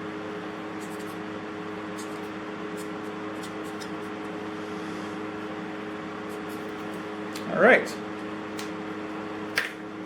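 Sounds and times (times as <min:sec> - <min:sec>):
mechanical hum with two-note drone: 0:00.0 - 0:10.0.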